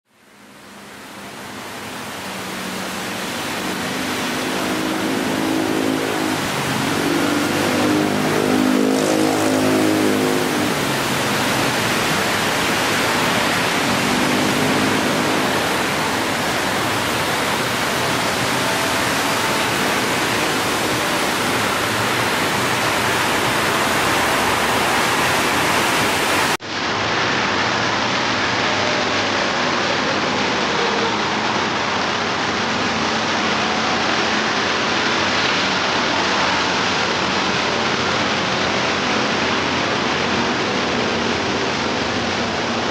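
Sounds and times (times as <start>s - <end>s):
heavy vehicle engine hum: 0.1s - 42.9s
passing vehicle noise: 0.1s - 42.9s.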